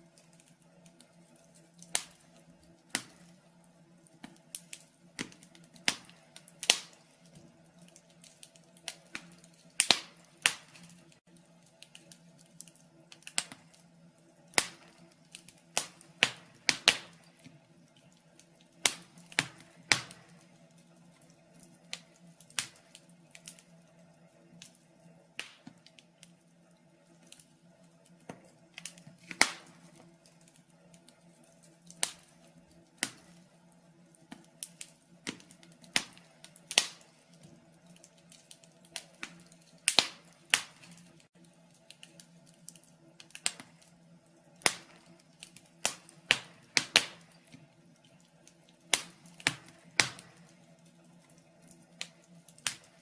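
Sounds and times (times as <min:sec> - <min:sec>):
faint steady hum: 0:00.0 - 0:53.0
wood fire crackling and popping: 0:00.0 - 0:53.0.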